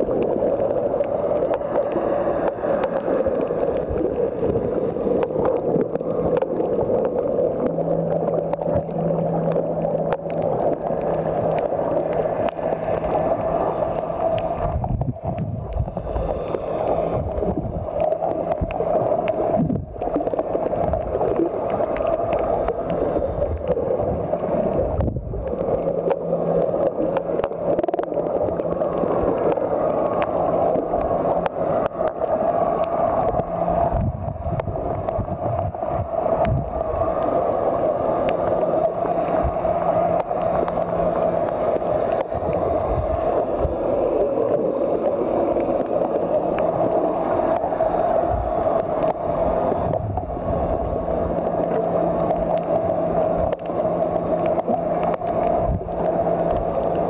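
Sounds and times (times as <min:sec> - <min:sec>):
faint steady hum: 0:00.0 - 0:57.0
muffled underwater rush: 0:00.0 - 0:57.0.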